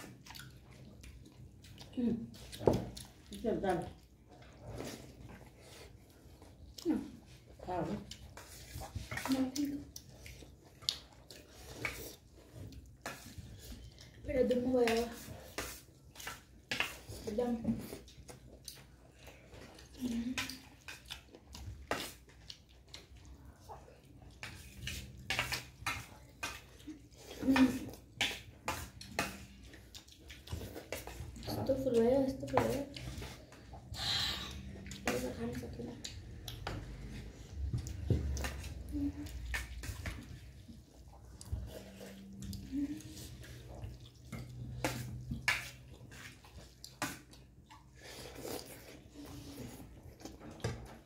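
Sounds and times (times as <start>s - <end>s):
wet chewing and smacking: 0.0s - 51.0s.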